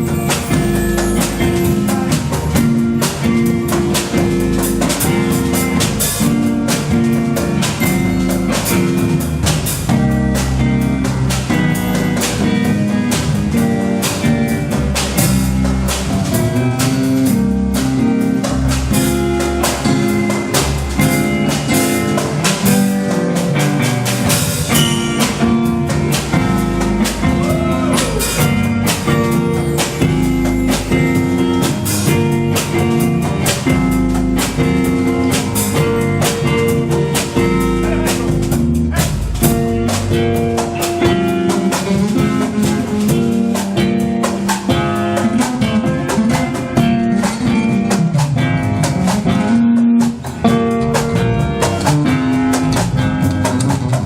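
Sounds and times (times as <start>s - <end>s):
instrumental band music: 0.0s - 54.0s.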